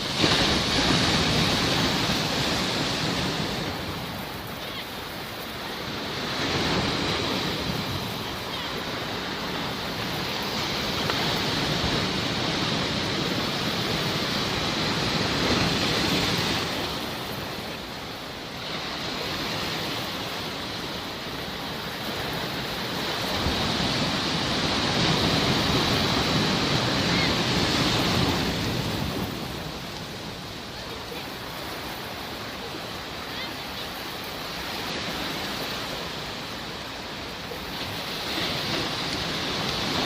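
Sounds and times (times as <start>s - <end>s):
sea waves washing onto shore: 0.0s - 40.0s.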